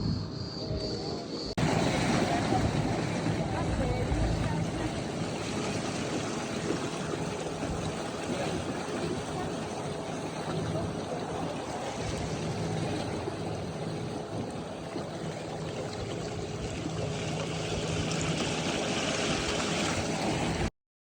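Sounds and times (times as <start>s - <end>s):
boat motor running: 0.0s - 20.7s
water rushing along hull: 0.0s - 20.7s.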